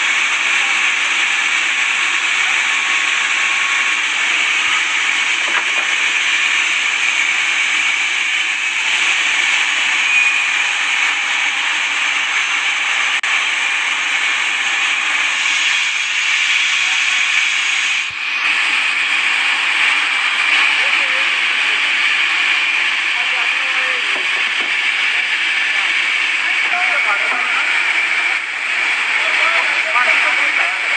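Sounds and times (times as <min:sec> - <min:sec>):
saw cutting timber: 0:00.0 - 0:30.9.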